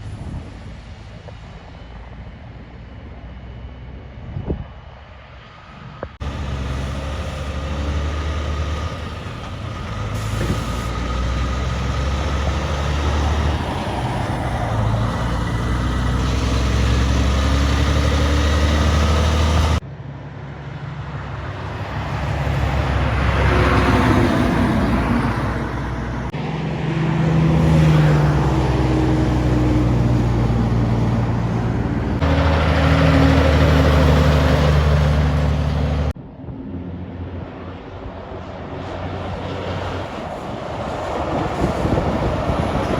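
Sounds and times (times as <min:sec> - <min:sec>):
diesel trucks driving by: 0:00.0 - 0:42.9.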